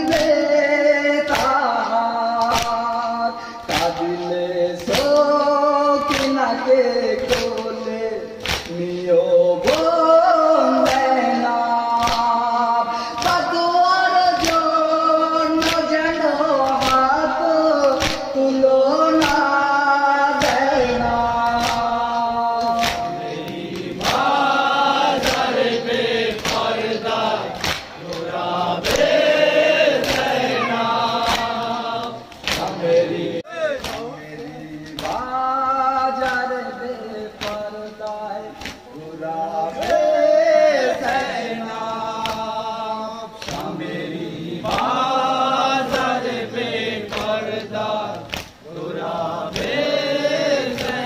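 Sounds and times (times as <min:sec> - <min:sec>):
men chanting a lament: 0:00.0 - 0:51.0.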